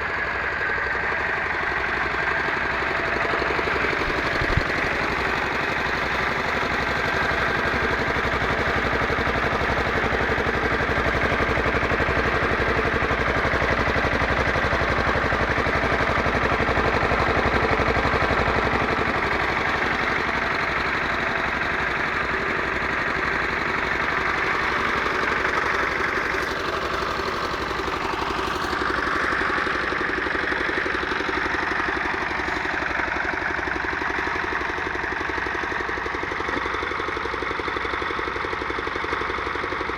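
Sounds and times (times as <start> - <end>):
air-cooled diesel engine running: 0.0 - 39.9.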